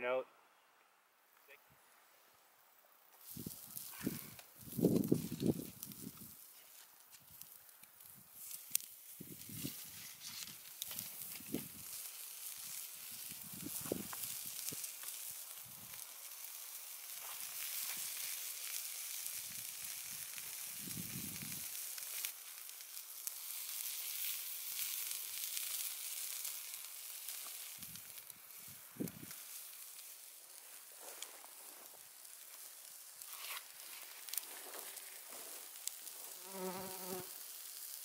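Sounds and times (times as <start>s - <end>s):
burger patties sizzling on grill: 3.2s - 38.0s.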